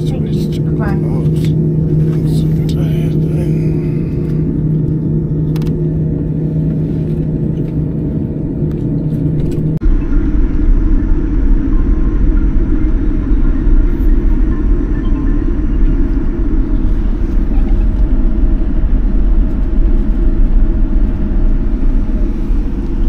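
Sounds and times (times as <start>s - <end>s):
aircraft cabin engine hum: 0.0s - 23.0s
deep engine rumble: 0.0s - 23.0s.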